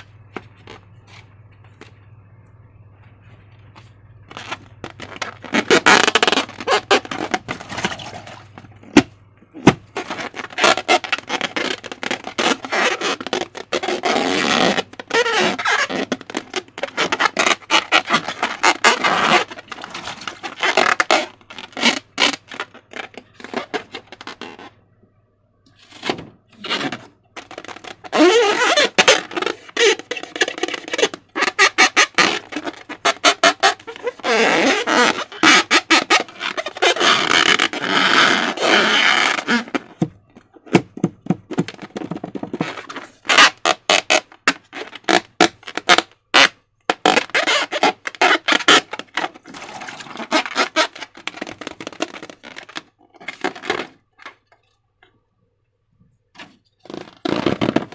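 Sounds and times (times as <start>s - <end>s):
rubbery balloon squeaks: 4.3s - 24.8s, 25.8s - 54.6s, 56.4s - 57.9s.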